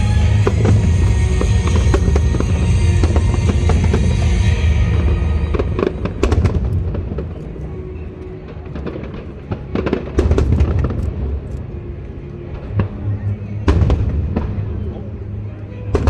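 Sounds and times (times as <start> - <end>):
music: 0.0 - 16.0.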